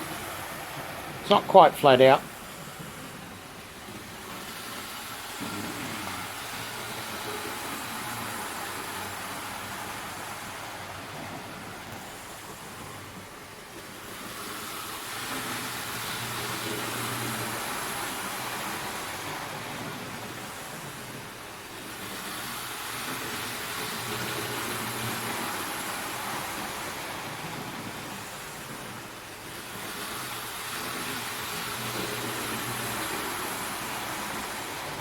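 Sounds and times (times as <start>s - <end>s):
wheel-on-rail rumble: 0.0s - 35.0s.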